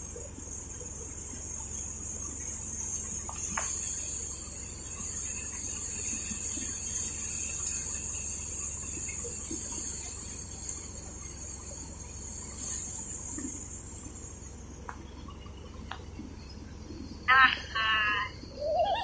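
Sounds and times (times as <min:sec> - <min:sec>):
thresher running: 0:00.0 - 0:18.7
high-pitched hiss: 0:00.0 - 0:19.0
low hum: 0:00.0 - 0:19.0.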